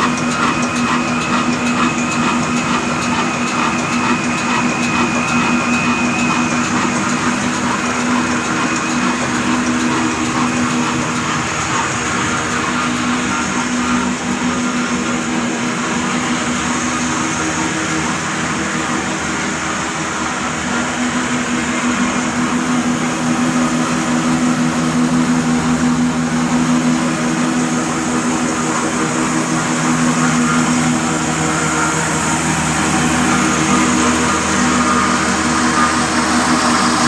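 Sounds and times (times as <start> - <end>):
diesel engine running steadily: 0.0 - 37.0.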